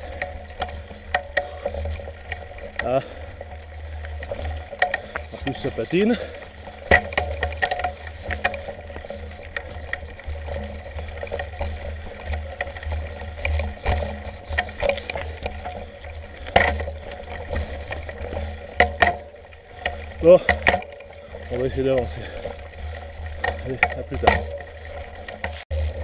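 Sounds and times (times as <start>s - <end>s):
bike rattles and knocks: 0.0s - 26.0s
mountain bike rumbling on trail: 0.0s - 26.0s.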